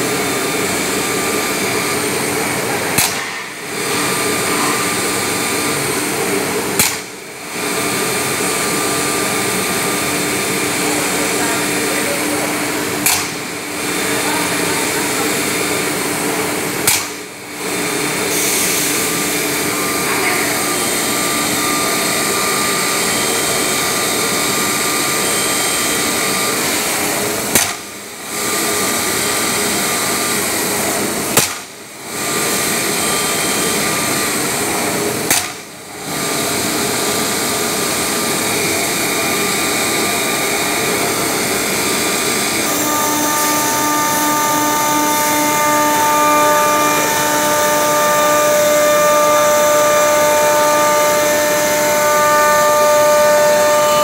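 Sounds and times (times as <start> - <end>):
cnc router cutting: 0.0 - 54.0.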